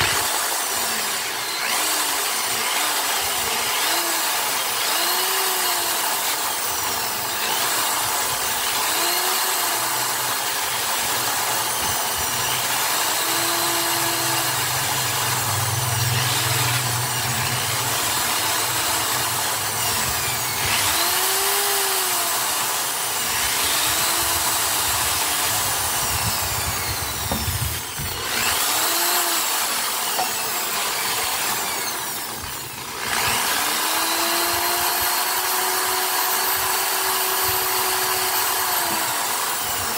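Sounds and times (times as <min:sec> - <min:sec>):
electric drill running: 0:00.0 - 0:39.9.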